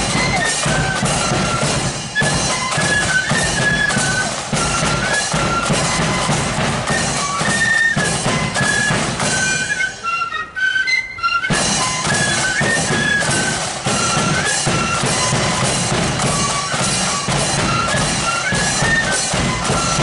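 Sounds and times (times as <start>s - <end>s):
snare and bass drums: 0.0s - 9.9s, 11.5s - 20.0s
flute band playing: 0.0s - 20.0s.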